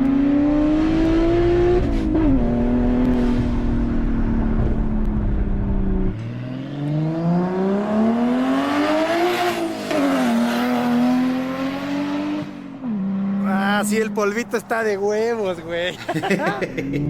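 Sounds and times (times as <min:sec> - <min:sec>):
car engine droning and revving: 0:00.0 - 0:17.0.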